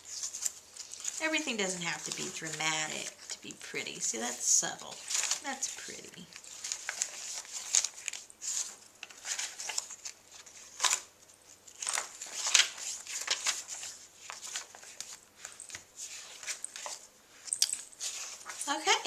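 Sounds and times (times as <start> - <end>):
paper pages turning: 0.0 - 19.0.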